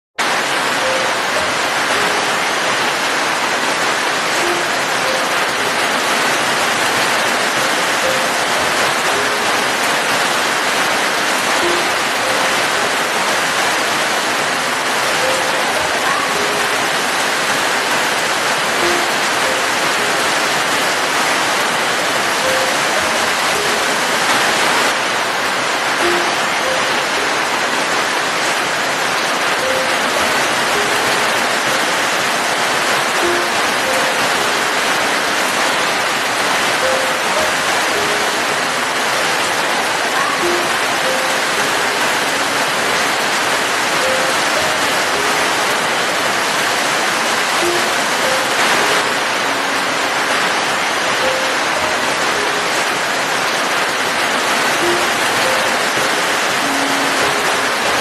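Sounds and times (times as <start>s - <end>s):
steady rain falling: 0.2s - 58.0s.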